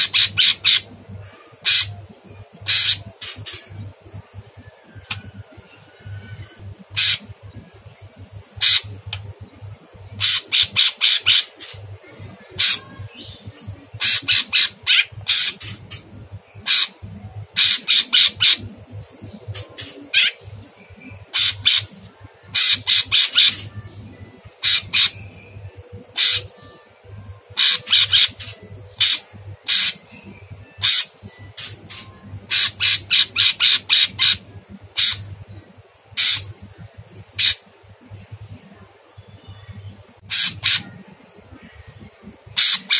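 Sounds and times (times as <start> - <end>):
bird singing rasping notes: 0.0 - 42.9.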